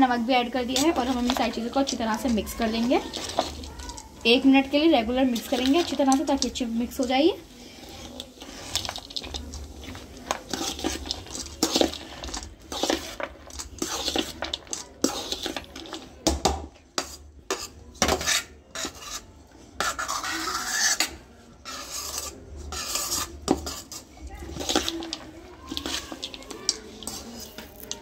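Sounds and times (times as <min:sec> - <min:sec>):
dry puffed rice rustling: 0:00.0 - 0:16.2, 0:21.6 - 0:28.0
spoon scraping steel bowl: 0:00.4 - 0:16.2, 0:17.0 - 0:28.0.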